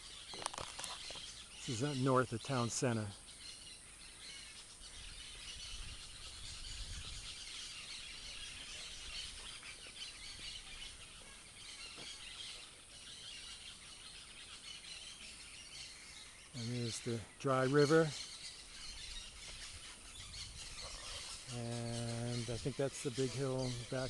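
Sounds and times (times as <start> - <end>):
flock of birds chattering: 0.0 - 24.0.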